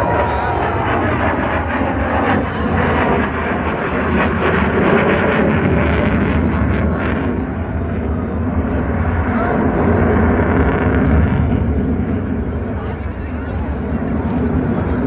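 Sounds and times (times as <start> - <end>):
military aircraft flying past: 0.0 - 15.0.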